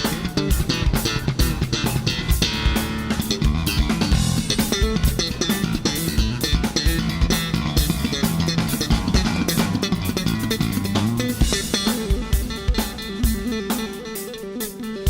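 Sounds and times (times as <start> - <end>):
rock music with guitars and drums: 0.0 - 15.0.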